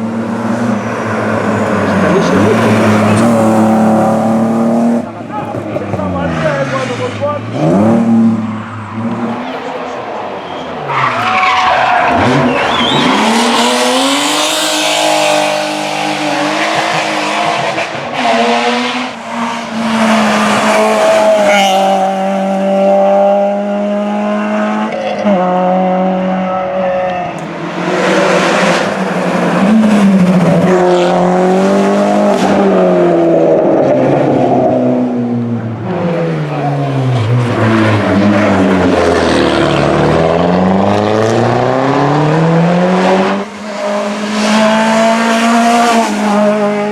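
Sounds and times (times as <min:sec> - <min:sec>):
tyres skidding: 0:00.0 - 0:23.9, 0:24.9 - 0:46.9
rally car engine at full throttle: 0:00.0 - 0:46.9.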